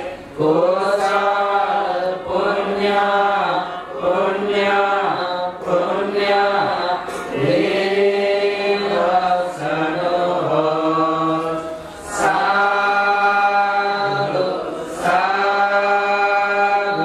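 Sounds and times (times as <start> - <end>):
voices chanting long notes: 0.0 - 17.0.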